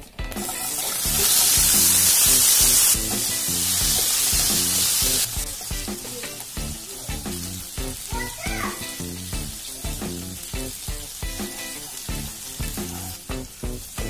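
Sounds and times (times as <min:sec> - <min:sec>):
shallots sizzling in hot oil: 0:00.0 - 0:14.0.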